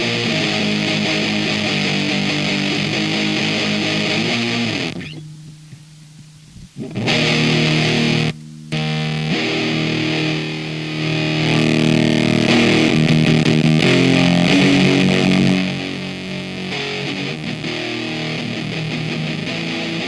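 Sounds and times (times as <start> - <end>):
distorted electric guitar chords: 0.0 - 20.0.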